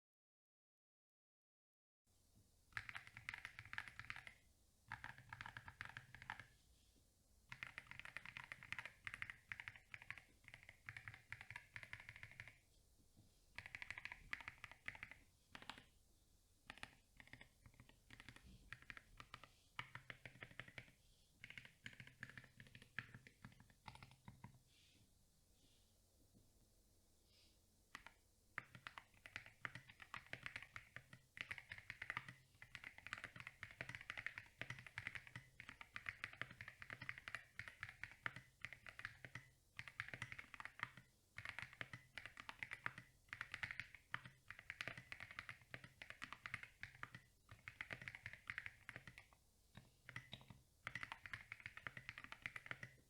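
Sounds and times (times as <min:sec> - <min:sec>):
mechanical keyboard typing: 0:02.8 - 0:06.5, 0:07.5 - 0:12.6, 0:13.6 - 0:15.9, 0:16.7 - 0:24.6, 0:27.9 - 0:53.0.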